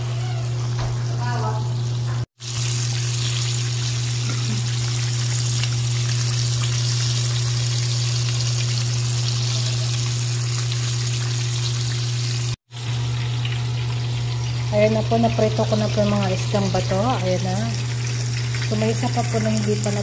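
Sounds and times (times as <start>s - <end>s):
oil sizzling while frying: 0.0s - 20.0s.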